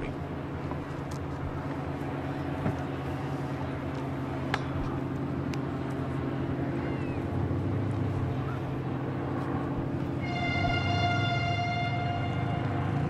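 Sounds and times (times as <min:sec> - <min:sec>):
low mechanical hum: 0:00.0 - 0:13.0
outdoor background noise: 0:00.0 - 0:13.0.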